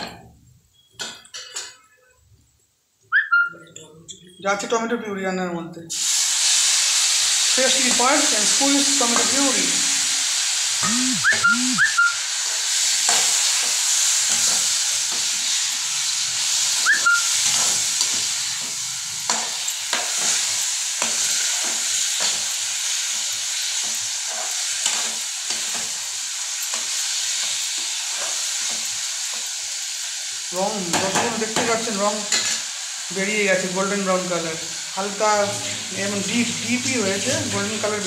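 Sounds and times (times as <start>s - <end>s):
food sizzling in oil: 5.9s - 38.0s.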